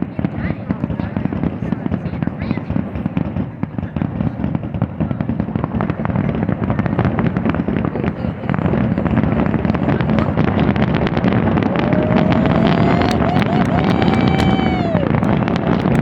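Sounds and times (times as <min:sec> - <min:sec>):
fireworks banging and crackling: 0:00.0 - 0:16.0.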